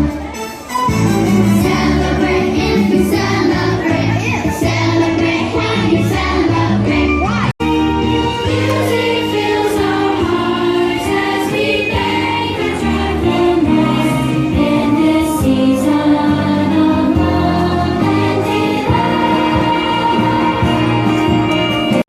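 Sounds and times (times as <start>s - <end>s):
instrumental accompaniment: 0.0s - 22.0s
children's choir singing: 1.4s - 22.0s.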